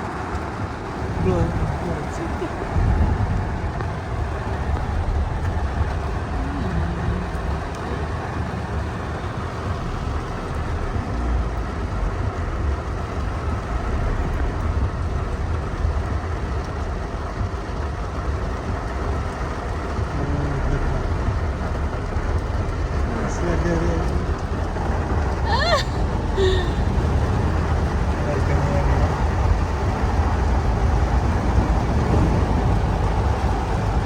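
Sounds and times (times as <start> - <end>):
car cabin rumble: 0.0 - 34.0.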